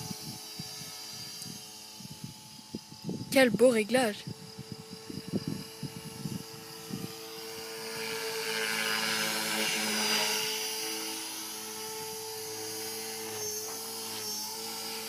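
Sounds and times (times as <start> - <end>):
rc helicopter motor whine: 0.0 - 15.0
rotor blades hissing: 0.0 - 15.0.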